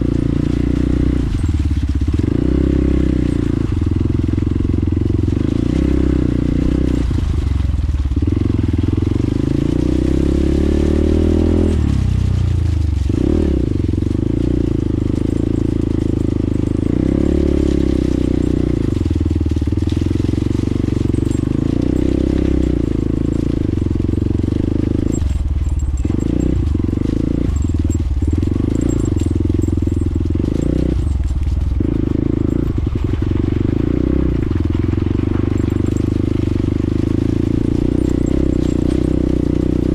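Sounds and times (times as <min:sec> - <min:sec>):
motorbike engine running: 0:00.0 - 0:39.9.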